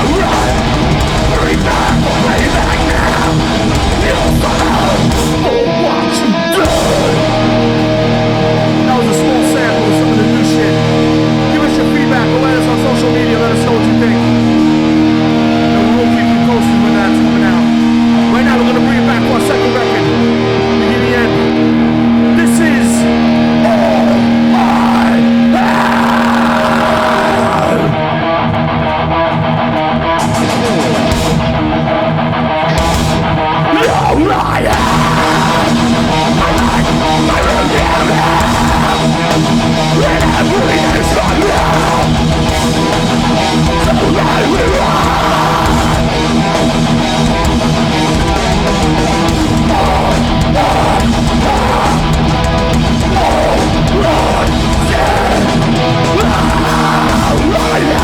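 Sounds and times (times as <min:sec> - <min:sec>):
metal band playing live: 0:00.0 - 0:58.0.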